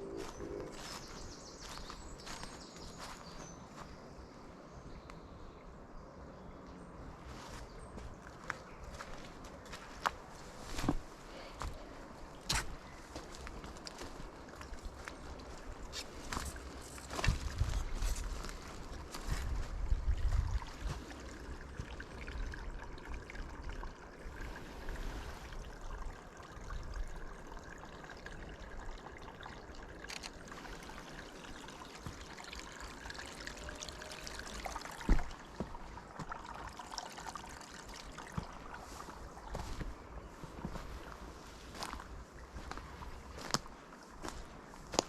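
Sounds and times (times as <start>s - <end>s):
water trickling: 0.0s - 4.0s, 6.9s - 45.0s.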